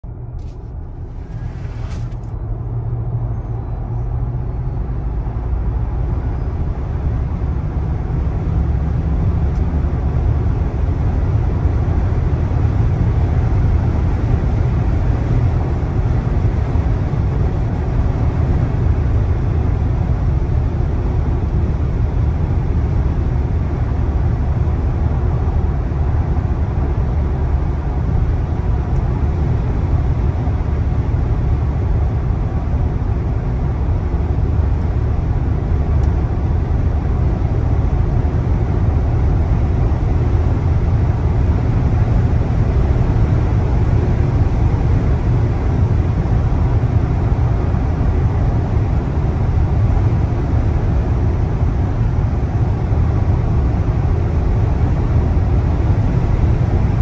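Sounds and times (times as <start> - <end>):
road and wind noise in car: 0.0 - 57.0.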